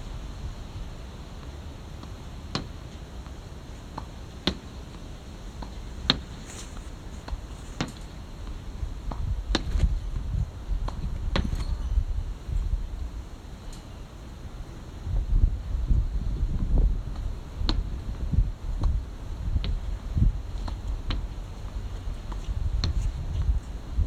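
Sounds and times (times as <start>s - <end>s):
steady low rumble: 0.0s - 3.8s, 5.1s - 24.0s.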